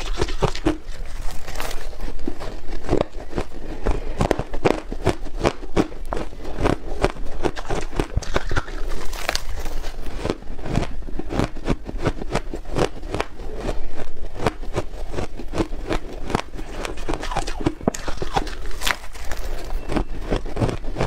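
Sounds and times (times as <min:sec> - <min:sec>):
crunching ice: 0:00.0 - 0:21.0.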